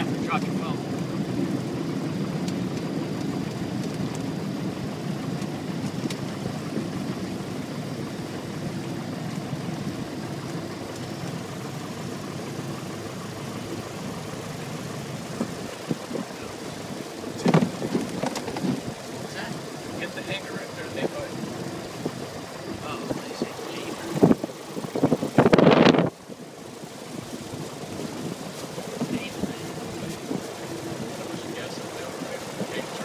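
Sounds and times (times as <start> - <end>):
airplane piston engine droning: 0.0 - 33.0.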